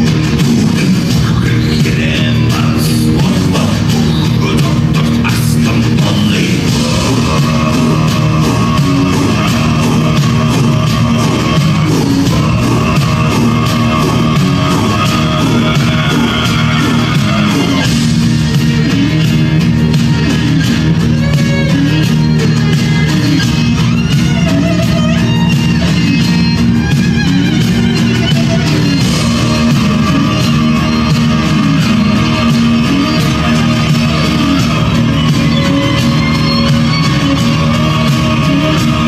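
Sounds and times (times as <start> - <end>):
loud dance music: 0.0 - 39.0.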